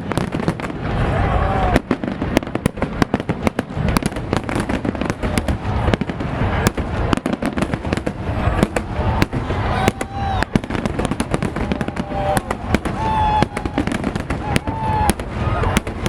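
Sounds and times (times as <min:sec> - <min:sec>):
fireworks bangs and crackles: 0:00.0 - 0:16.0
low rumble of fireworks bursts: 0:00.0 - 0:16.0.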